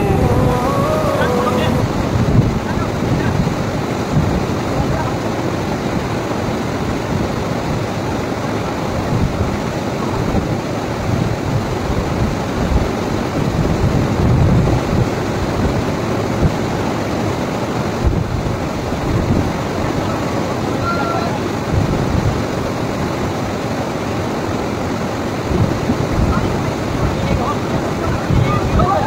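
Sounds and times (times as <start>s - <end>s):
waterfall rushing water: 0.0s - 29.0s.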